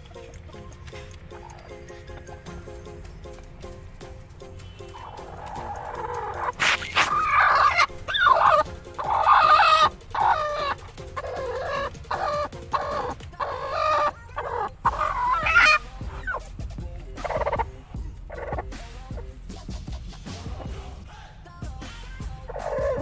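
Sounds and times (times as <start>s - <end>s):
hen squawking: 1.0s - 3.4s, 4.1s - 21.0s, 22.1s - 23.0s.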